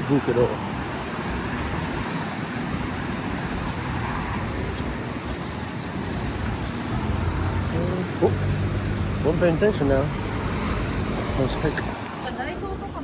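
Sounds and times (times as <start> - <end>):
city street noise: 0.0 - 13.0
road traffic passing: 0.0 - 13.0.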